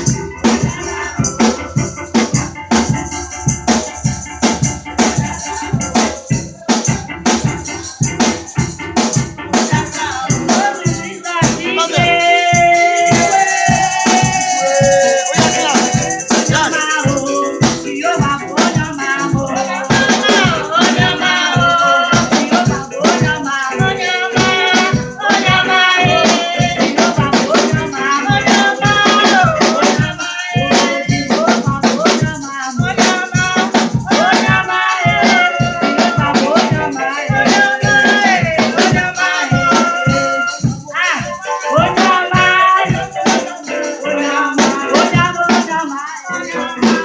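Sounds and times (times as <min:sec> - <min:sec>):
shakers: 0:00.0 - 0:47.0
steady percussion beat: 0:00.0 - 0:47.0
voices singing praise music: 0:00.0 - 0:47.0.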